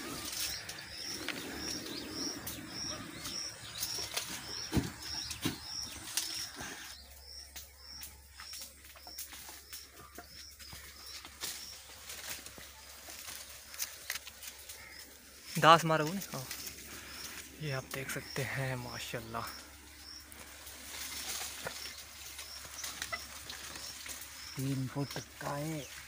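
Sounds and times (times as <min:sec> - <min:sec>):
bird chirping: 0:00.0 - 0:13.0, 0:13.8 - 0:26.0.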